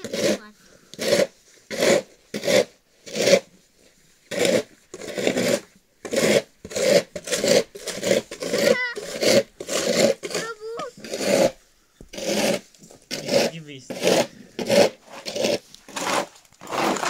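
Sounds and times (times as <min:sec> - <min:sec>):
snow shovels scraping ground: 0:00.0 - 0:17.0.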